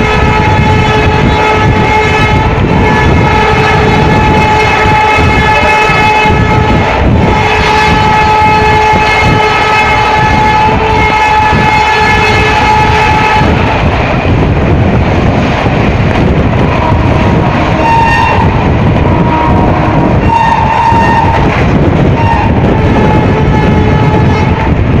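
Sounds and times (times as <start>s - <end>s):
train horn blasts: 0.0s - 13.8s, 16.6s - 25.0s
train wheels rumbling on rail: 0.0s - 25.0s.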